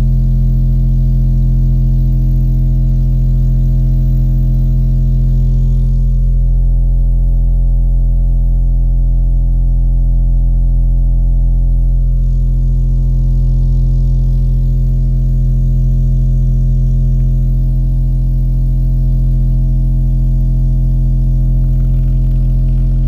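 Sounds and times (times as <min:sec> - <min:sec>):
deep bass test tone: 0:00.0 - 0:23.0.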